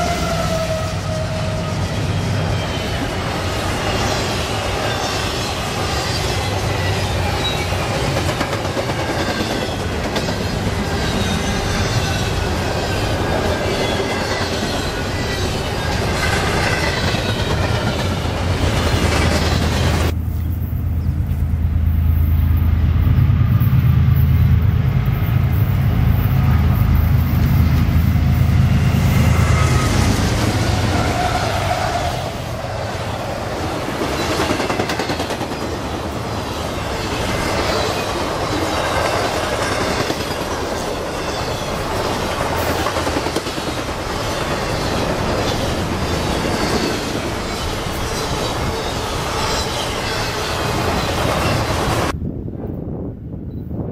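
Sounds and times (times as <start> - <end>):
freight train rumbling: 0.0 - 53.9.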